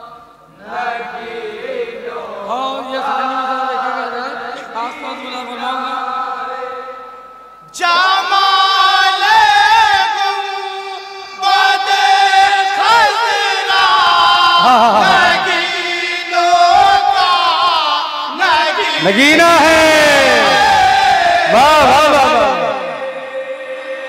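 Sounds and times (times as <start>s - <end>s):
men singing in unison: 0.0s - 7.1s, 7.7s - 24.0s.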